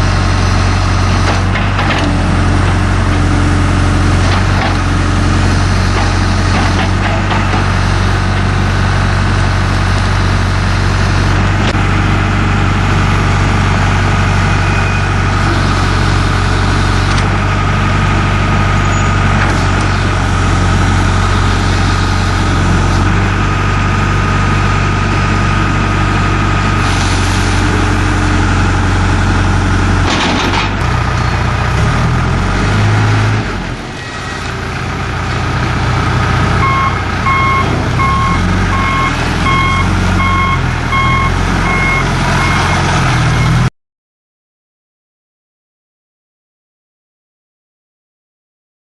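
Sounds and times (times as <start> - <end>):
diesel engine running: 0.0 - 43.7.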